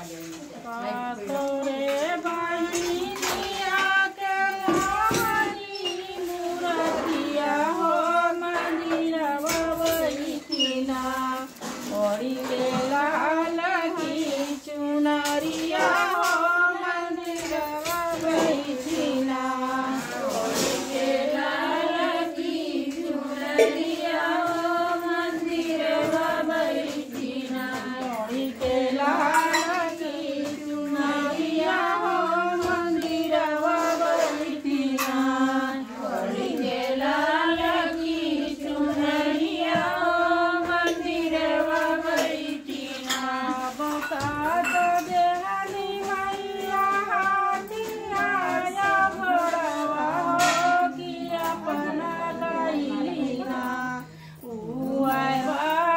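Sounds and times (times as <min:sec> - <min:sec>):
women singing devotional song: 0:00.0 - 0:55.9.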